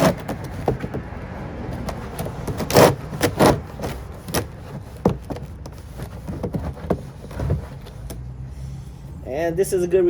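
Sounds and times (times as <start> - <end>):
loud scraping knocks of plastic: 0.0 - 8.2.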